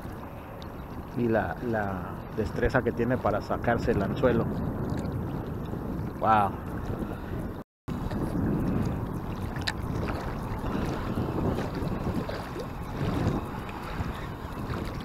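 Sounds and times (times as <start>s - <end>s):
water lapping at bank: 0.0s - 15.0s
wind buffeting microphone: 0.0s - 15.0s.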